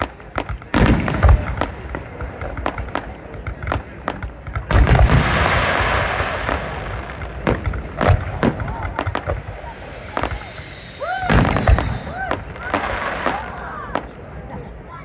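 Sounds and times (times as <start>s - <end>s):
firework booms: 0.0s - 14.4s
firework bangs: 0.0s - 14.9s
firework crackling: 0.0s - 14.9s.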